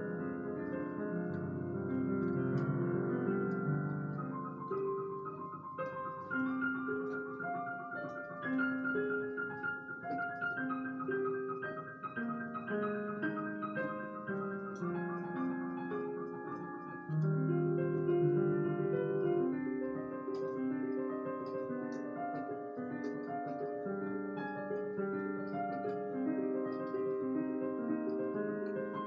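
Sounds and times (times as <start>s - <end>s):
digital piano slow solo: 0.0s - 29.0s.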